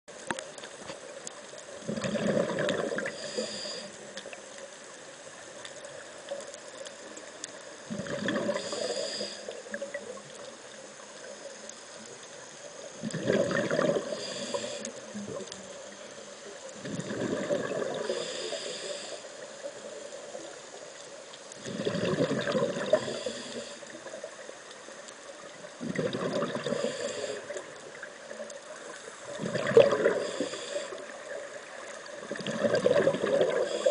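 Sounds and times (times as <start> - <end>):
faint steady hiss: 0.1 - 33.9
underwater exhaust bubbles gurgling: 0.1 - 33.9.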